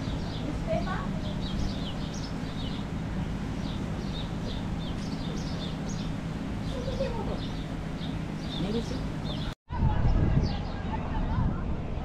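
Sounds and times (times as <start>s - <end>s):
small birds chirping: 0.0s - 10.9s
low background rumble: 0.0s - 12.0s.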